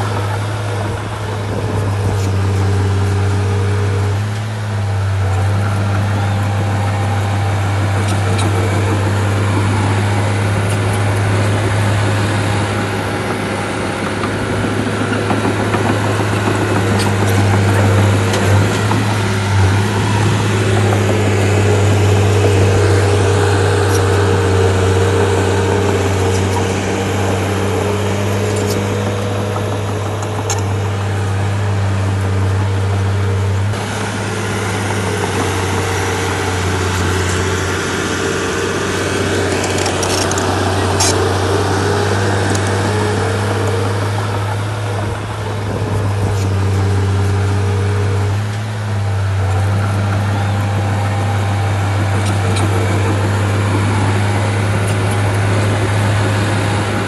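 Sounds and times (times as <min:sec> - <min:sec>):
bulldozer diesel engine humming: 0:00.0 - 0:57.0.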